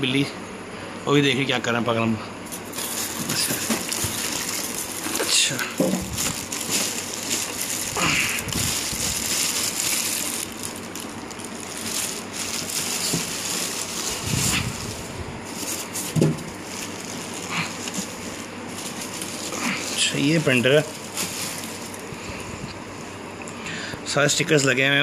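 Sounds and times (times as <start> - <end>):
plastic bag and bubble wrap crinkling: 2.5 - 23.2.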